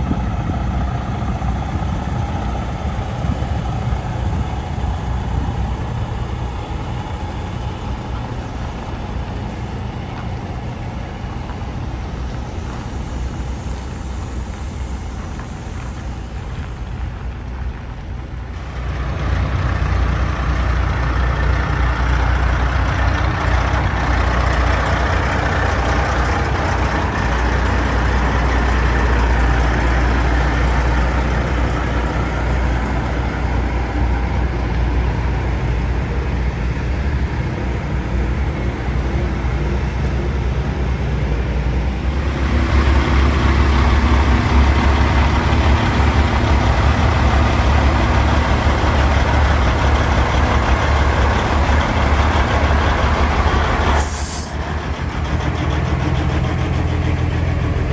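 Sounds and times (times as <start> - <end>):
truck diesel engines rumbling: 0.0 - 57.9.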